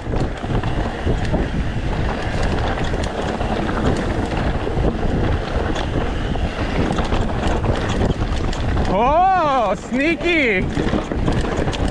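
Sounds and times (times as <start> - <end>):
bike rattling and clattering: 0.0 - 11.9
tyres rumbling over dirt: 0.0 - 11.9
wind rushing over microphone: 0.0 - 11.9.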